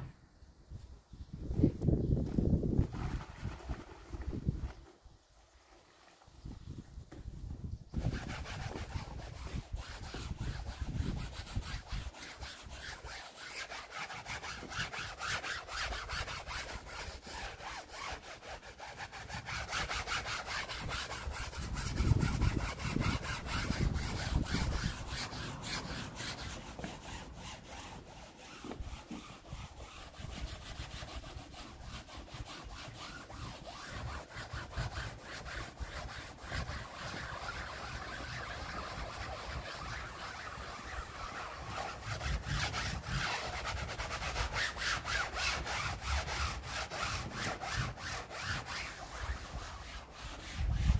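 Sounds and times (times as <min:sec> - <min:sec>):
wet cloth scrubbing fabric: 0:08.0 - 0:50.9.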